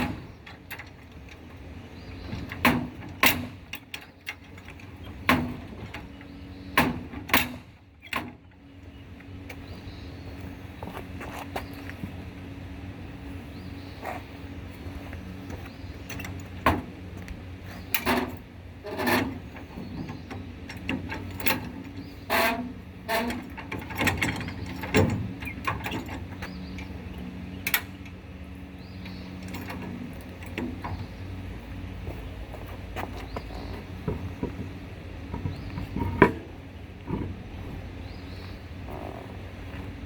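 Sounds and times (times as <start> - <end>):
tools clanking on trailer wheel: 0.0 - 9.8, 15.1 - 39.9
steady low hum: 0.0 - 40.0.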